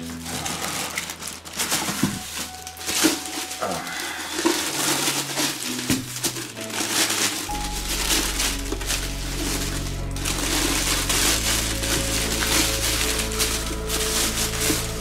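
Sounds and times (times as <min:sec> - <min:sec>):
background music: 0:00.0 - 0:15.0
packaging crinkling and rustling: 0:00.0 - 0:15.0.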